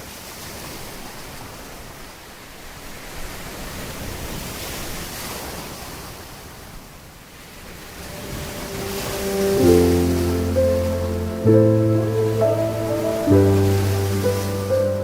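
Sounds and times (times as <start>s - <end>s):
sea waves rushing: 0.0s - 15.0s.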